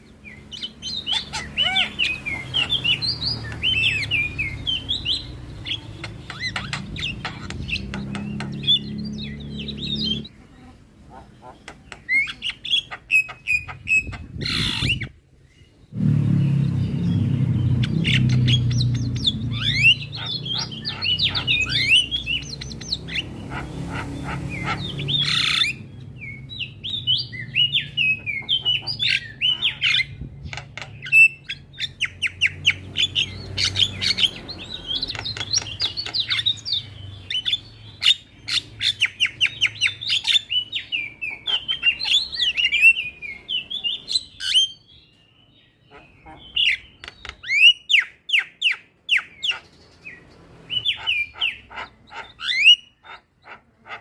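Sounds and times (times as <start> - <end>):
bird singing with chattering notes: 0.0 - 54.0.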